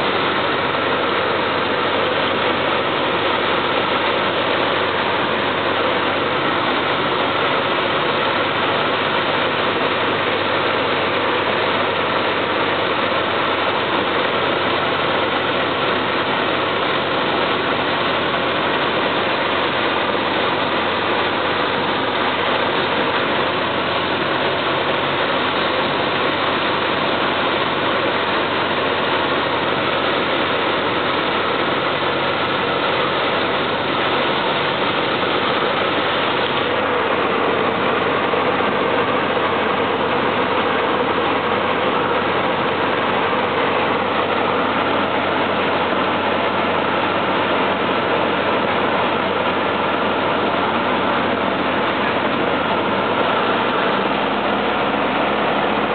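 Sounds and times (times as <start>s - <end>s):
cabin air noise: 0.0s - 55.9s
propeller plane engine droning: 0.0s - 55.9s.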